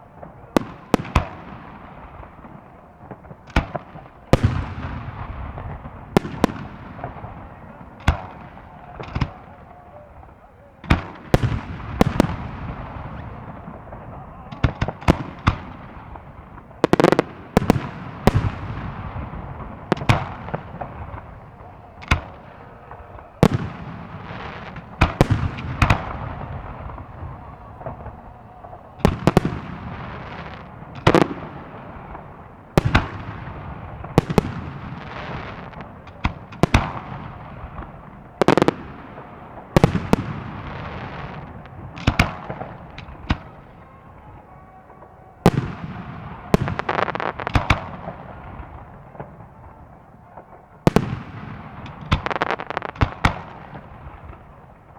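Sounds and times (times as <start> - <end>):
fireworks bursting with bangs: 0.0 - 54.9
fireworks rumble and crackle: 0.0 - 54.9.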